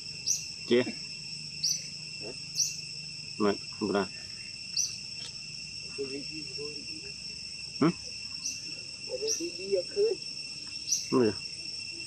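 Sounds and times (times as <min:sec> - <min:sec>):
insect chorus drone: 0:00.0 - 0:12.0
short insect chirps: 0:00.0 - 0:12.0.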